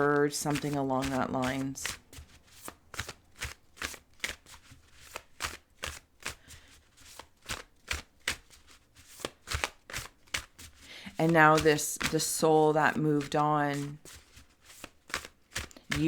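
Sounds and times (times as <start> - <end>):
cards being shuffled: 0.0 - 16.0.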